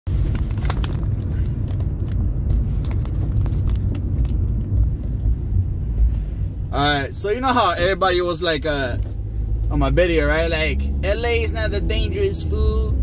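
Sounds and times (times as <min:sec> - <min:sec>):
car driving rumble from inside: 0:00.1 - 0:13.0.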